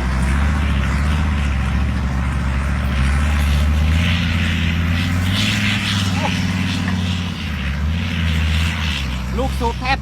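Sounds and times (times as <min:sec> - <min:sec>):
truck engine running loudly: 0:00.0 - 0:10.0.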